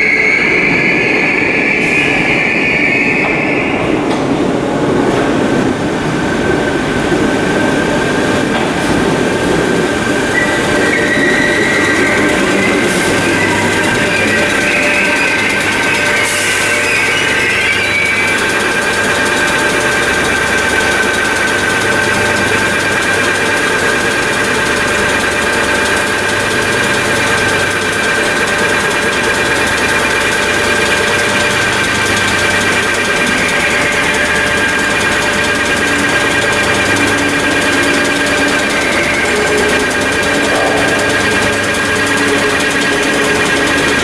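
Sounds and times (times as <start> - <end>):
train equipment whine and hum: 0.0 - 44.0.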